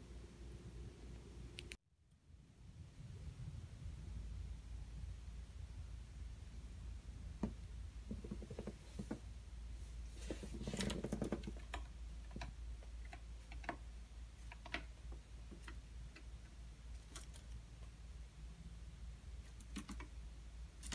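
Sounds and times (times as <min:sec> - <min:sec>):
low room hum: 0:00.0 - 0:20.9.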